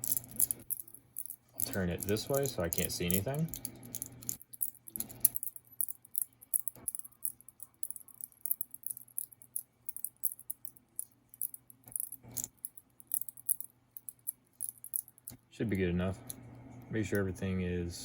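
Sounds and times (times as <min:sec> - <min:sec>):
padlock wheels clicking and rattling: 0:00.0 - 0:15.4.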